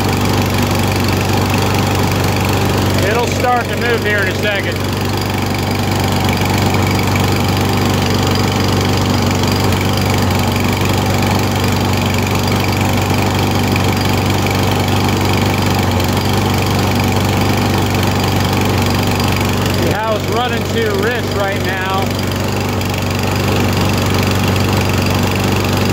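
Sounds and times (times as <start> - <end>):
lawn mower engine running: 0.0 - 25.9.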